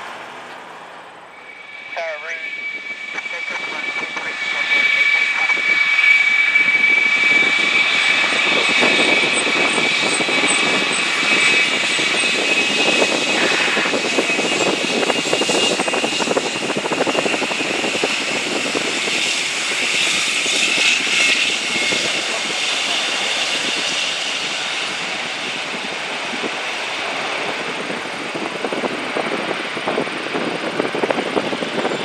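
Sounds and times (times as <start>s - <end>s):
jet engines passing: 0.0s - 32.0s.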